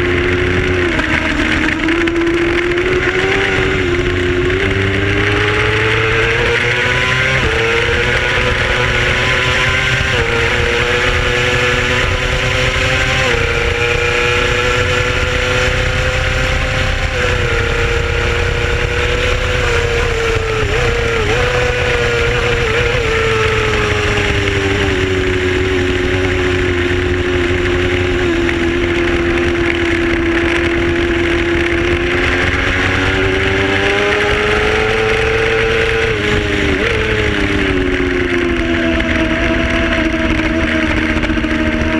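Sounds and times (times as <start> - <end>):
racing motorcycle engine high revs: 0.0 - 41.9.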